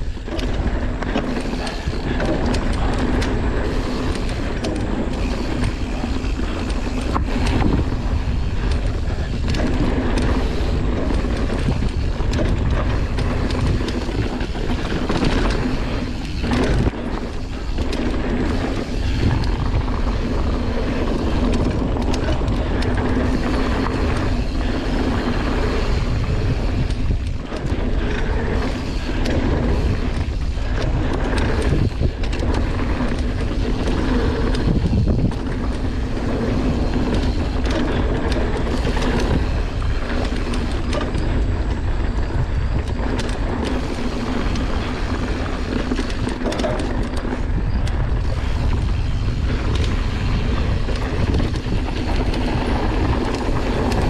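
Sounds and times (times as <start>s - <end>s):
bike knocks and rattles: 0.0s - 54.0s
tyres on packed dirt: 0.0s - 54.0s
wind rushing over microphone: 0.0s - 54.0s.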